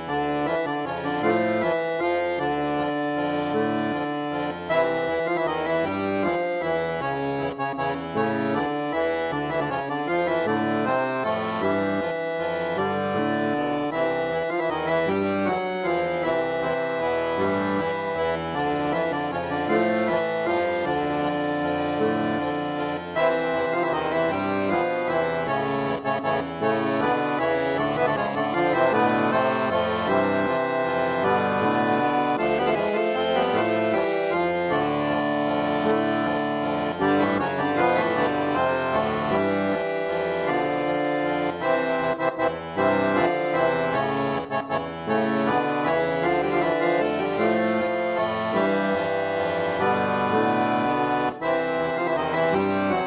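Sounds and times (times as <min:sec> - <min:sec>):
reedy instrument melody: 0:00.0 - 0:53.0.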